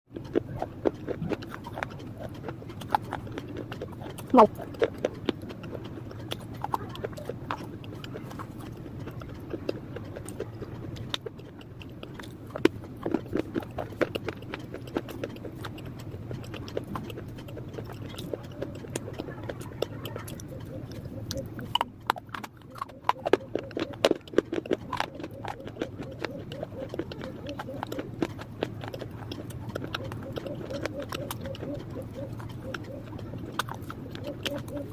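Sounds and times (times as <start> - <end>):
chewing crunchy clay: 0.1 - 34.9
steady low hum: 0.1 - 34.9.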